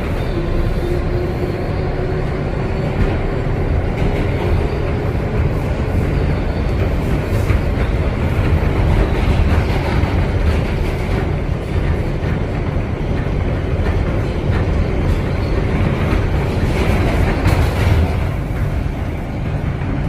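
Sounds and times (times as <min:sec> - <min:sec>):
subway train wheels rumbling: 0:00.0 - 0:20.0.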